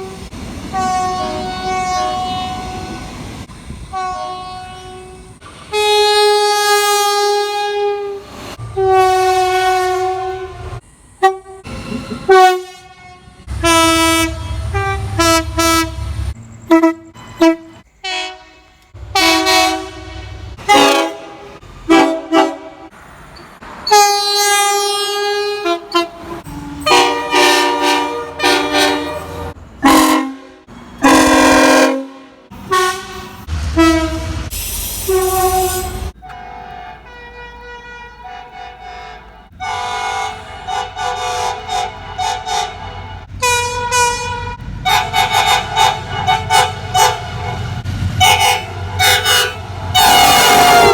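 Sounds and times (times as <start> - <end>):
train horn blasts: 0.0 - 3.2, 3.9 - 22.9, 23.9 - 50.9.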